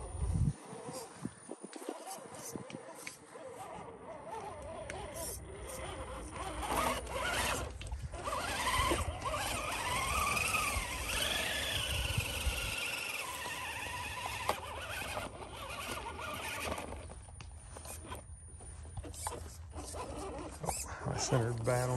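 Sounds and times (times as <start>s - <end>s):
toy car motor whining: 0.0s - 21.9s.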